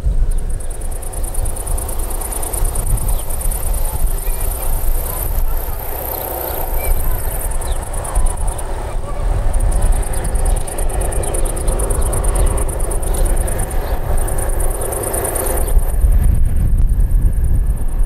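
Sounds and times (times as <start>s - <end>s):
insects chirping: 0.0s - 16.1s
distant diesel locomotive rumble: 0.0s - 18.0s.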